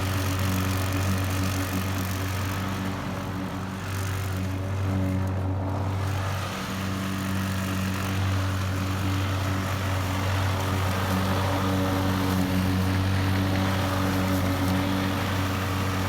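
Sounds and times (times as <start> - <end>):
lawn mower engine cutting grass: 0.0 - 16.0.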